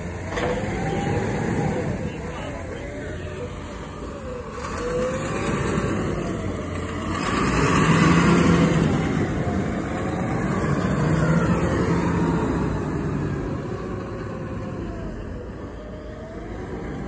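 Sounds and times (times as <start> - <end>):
garbage truck engine running: 0.0 - 17.0.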